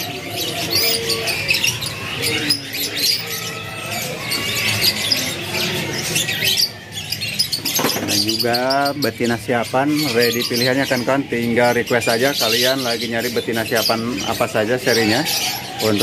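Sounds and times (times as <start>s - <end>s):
canaries singing and chirping: 0.0s - 16.0s.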